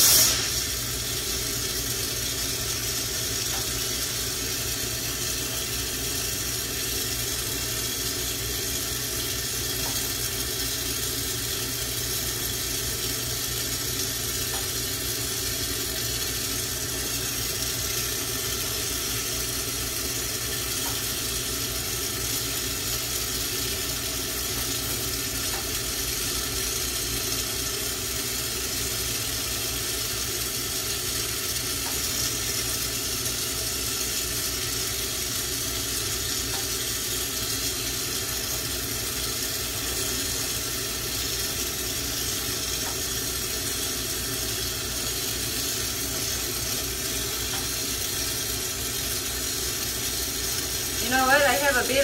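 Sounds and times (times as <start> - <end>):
torch flame hissing: 0.0 - 52.0.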